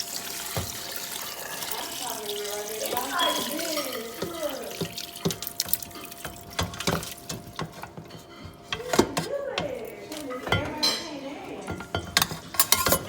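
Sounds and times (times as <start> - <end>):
water splashing at sink: 0.0 - 13.0
pots and dishes clinking: 0.1 - 13.0.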